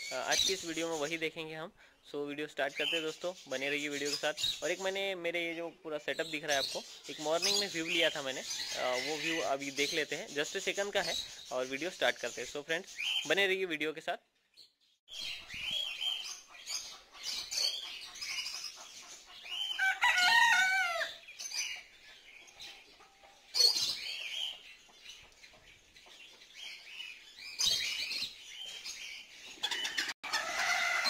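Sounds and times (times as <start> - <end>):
small birds chirping and twittering: 0.0 - 31.0.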